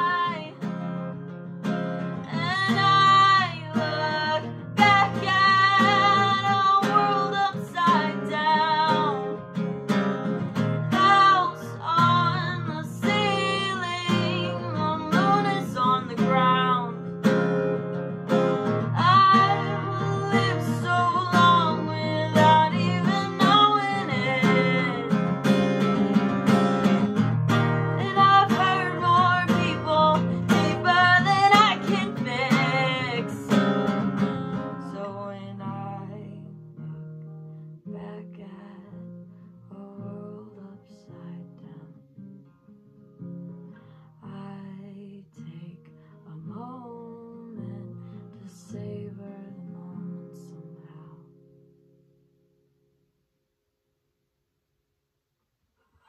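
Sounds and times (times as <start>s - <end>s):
woman singing: 0.0s - 1.2s, 2.0s - 37.0s, 37.8s - 42.3s, 44.2s - 51.3s
strummed acoustic guitar: 0.0s - 52.2s.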